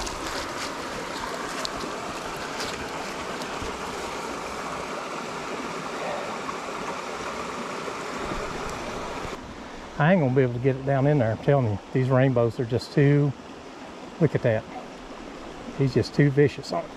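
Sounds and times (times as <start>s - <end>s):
stream water flowing: 0.0s - 16.9s.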